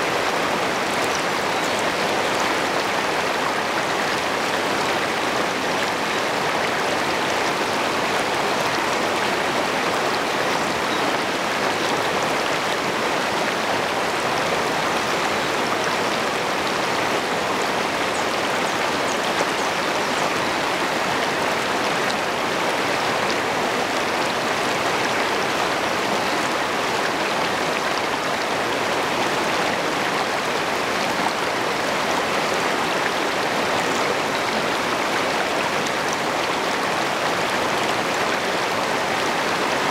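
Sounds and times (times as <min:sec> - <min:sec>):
river rapids rushing over rocks: 0:00.0 - 0:39.9.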